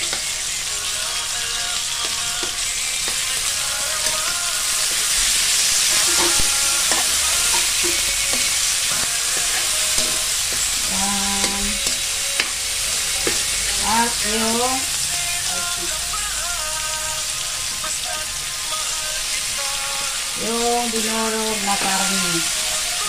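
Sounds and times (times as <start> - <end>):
spatula scraping wok: 0.0 - 18.6, 20.0 - 23.0
vegetables sizzling in oil: 0.0 - 23.0.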